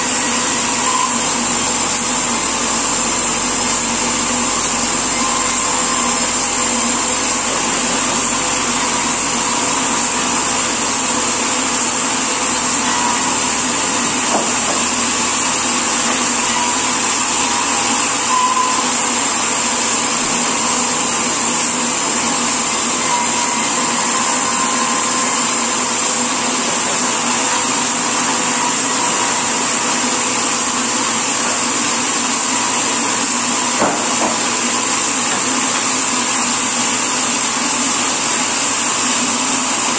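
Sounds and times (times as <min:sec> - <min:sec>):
sawmill machinery high whine: 0:00.0 - 0:39.9
steady mechanical noise: 0:00.0 - 0:39.9.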